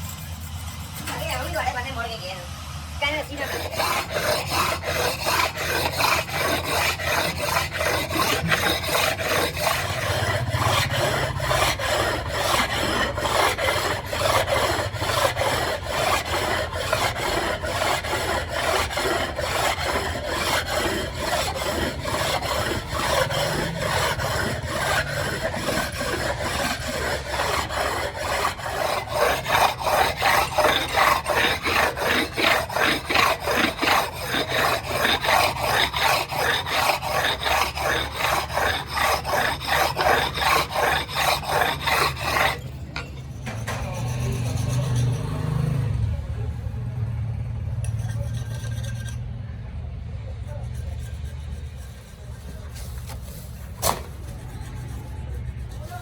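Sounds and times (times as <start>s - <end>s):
file rasping on metal: 0.0s - 2.2s, 3.0s - 46.5s, 47.8s - 49.6s, 50.3s - 56.0s.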